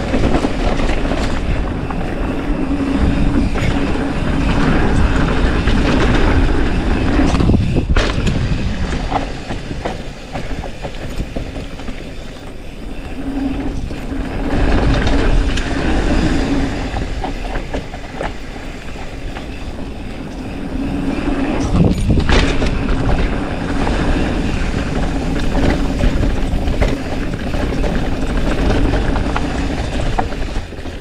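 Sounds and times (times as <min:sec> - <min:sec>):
bike rattling: 0:00.0 - 0:31.0
bike tyres on dirt: 0:00.0 - 0:31.0
wind rush on microphone: 0:00.0 - 0:31.0.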